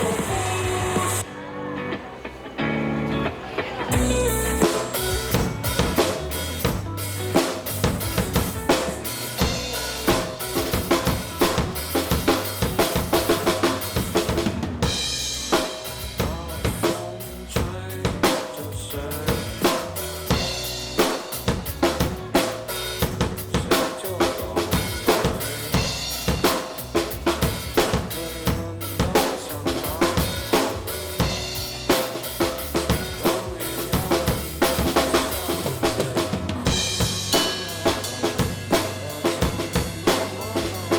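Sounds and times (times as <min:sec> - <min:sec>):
rock drum kit groove: 0:00.0 - 0:01.2, 0:03.9 - 0:40.9
backing band with bass and guitar: 0:00.0 - 0:40.9.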